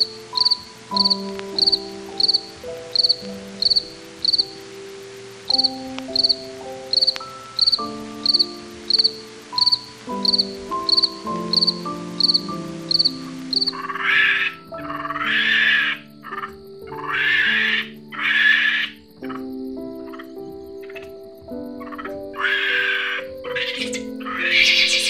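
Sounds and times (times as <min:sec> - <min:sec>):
cricket chirping: 0:00.0 - 0:25.0
soft background music: 0:00.0 - 0:25.0.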